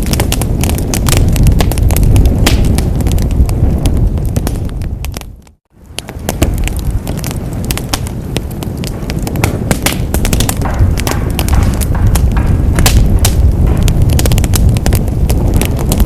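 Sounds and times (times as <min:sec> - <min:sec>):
low roar of flames: 0:00.0 - 0:16.0
wood fire crackling and popping: 0:00.0 - 0:16.0.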